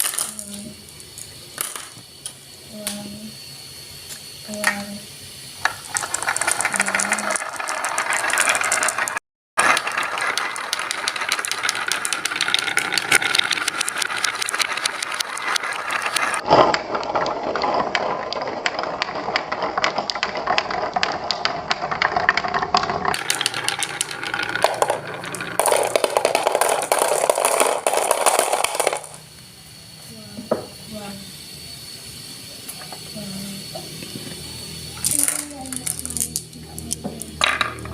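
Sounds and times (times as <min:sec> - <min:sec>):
marbles rattling down a track: 0:00.0 - 0:03.4, 0:04.1 - 0:29.6, 0:32.8 - 0:37.9.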